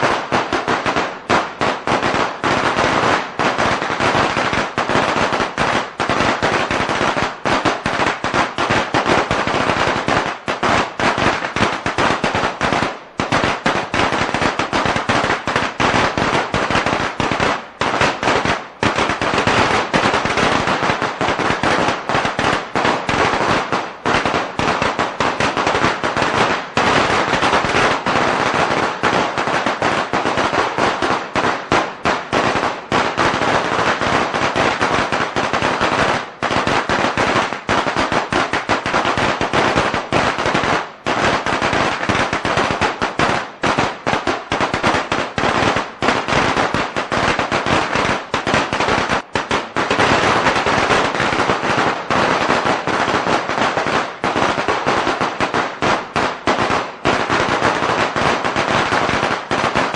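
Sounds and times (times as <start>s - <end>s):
firecrackers going off: 0.0s - 59.9s.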